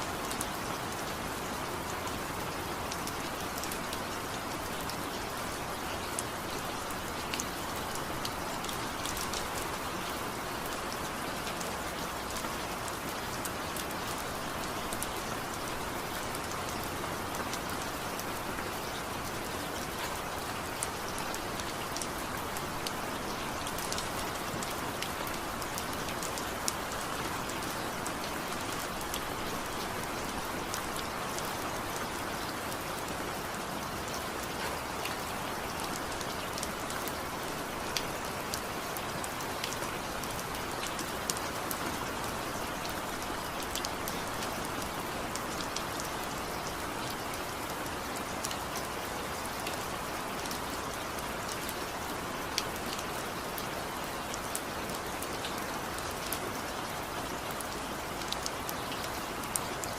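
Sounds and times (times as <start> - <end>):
rain falling: 0.0 - 59.9
raindrops ticking on a surface: 0.0 - 59.9.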